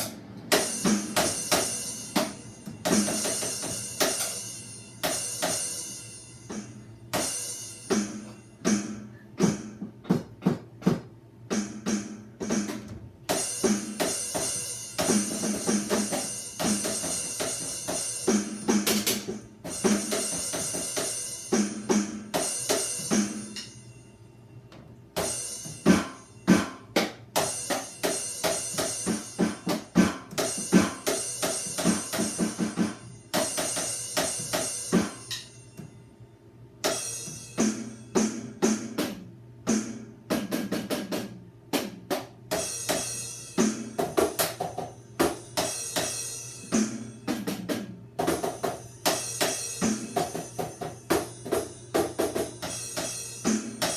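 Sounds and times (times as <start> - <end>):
drum and cymbal hits: 0.0 - 23.9, 25.2 - 36.0, 36.8 - 53.9.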